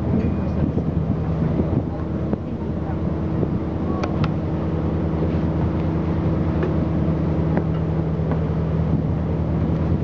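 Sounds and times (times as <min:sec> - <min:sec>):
ship engine drone: 0:00.0 - 0:10.0
wind and water hiss: 0:00.0 - 0:10.0.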